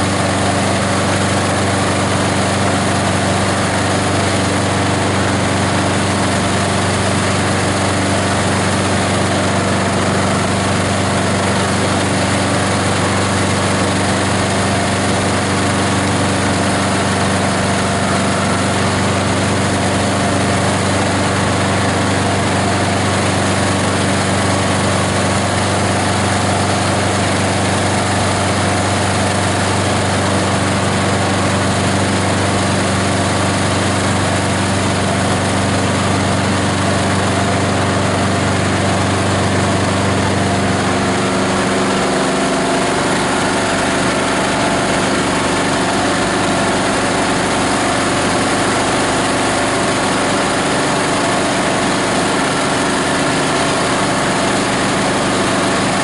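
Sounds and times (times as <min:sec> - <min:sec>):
diesel engine running steadily: 0:00.0 - 0:56.0.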